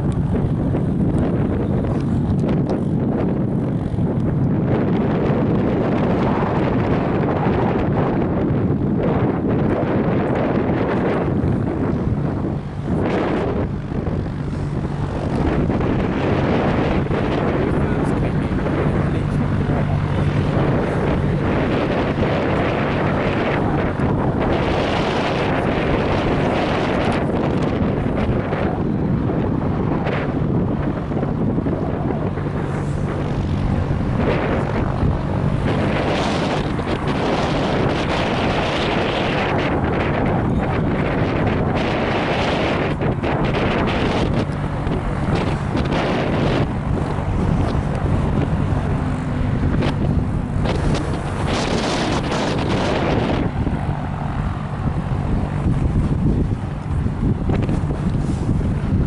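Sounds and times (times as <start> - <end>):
jet engines rumbling: 0.0 - 59.0
wind buffeting microphone: 0.0 - 59.0.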